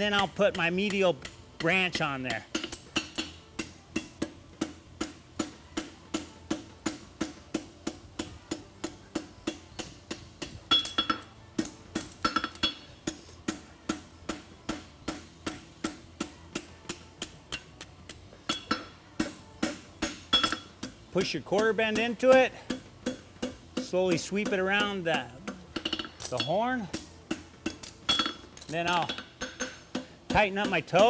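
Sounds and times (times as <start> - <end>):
hammer striking metal on anvil: 0.0 - 31.0.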